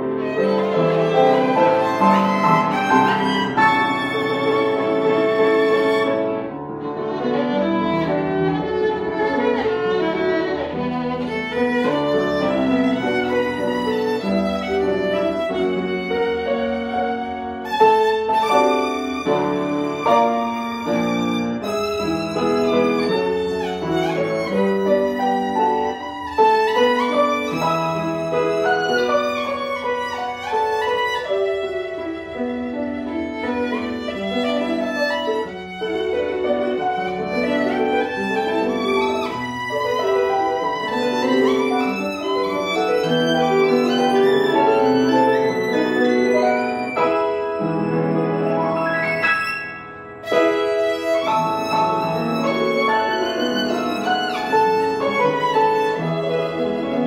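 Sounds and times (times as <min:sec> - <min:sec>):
piano accompaniment: 0:00.0 - 0:57.0
violin melody with vibrato: 0:00.0 - 0:57.0.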